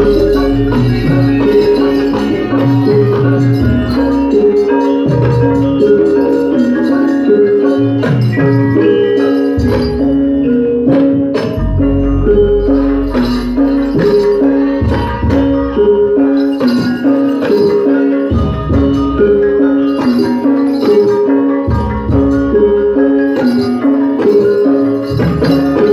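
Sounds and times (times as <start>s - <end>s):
jingling percussion: 0.0s - 25.9s
metallophones playing melody: 0.0s - 25.9s.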